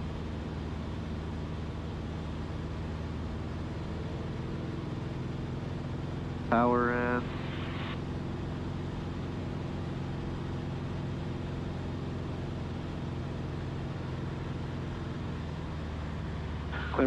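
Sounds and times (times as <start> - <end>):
propeller airplane engine droning: 0.0 - 17.0.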